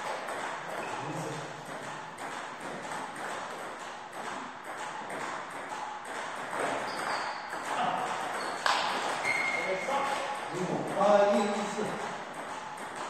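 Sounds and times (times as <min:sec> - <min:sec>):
ping-pong ball bouncing on table: 0:00.0 - 0:13.0
ping-pong ball clicking off bats: 0:00.0 - 0:13.0.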